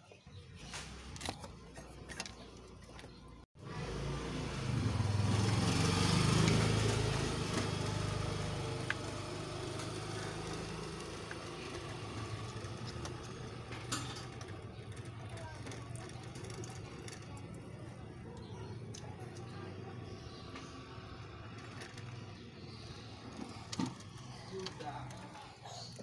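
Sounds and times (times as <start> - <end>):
vehicle engine passing: 3.6 - 25.8.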